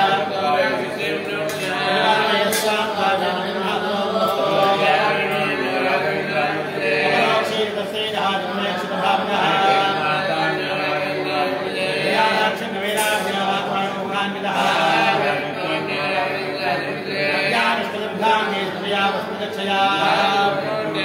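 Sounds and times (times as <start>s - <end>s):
men chanting: 0.0s - 21.0s.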